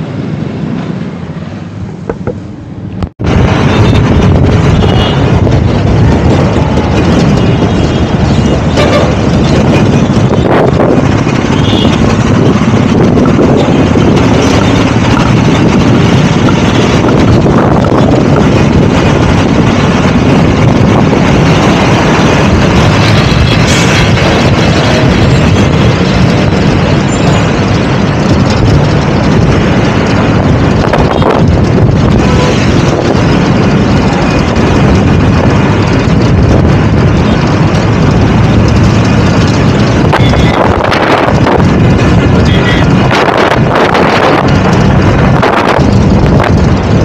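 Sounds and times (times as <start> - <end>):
lorry road and engine noise: 0.0 - 47.0
wind buffeting microphone: 1.7 - 47.0.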